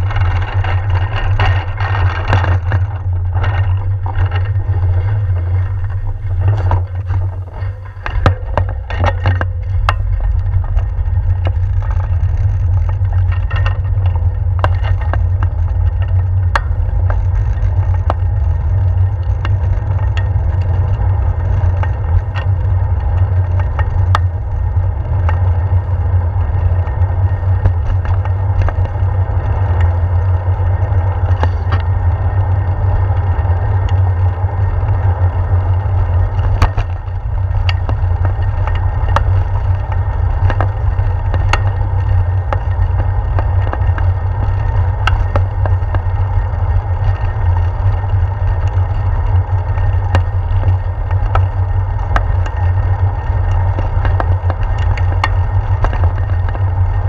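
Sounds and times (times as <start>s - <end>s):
knocks and rattles on brick pavers: 0.0s - 24.6s, 25.2s - 30.6s, 36.0s - 57.0s
bicycle tyre rumble: 0.0s - 57.0s.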